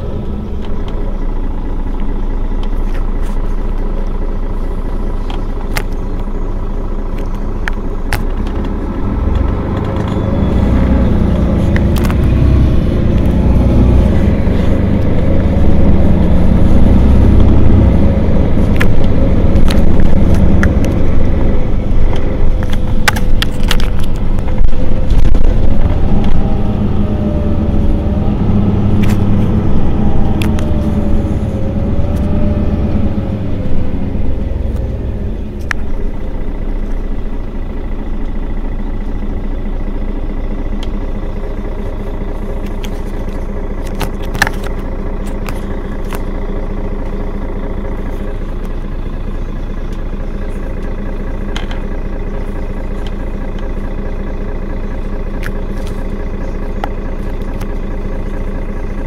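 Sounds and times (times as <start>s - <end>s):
bus engine idling: 0.0s - 59.0s.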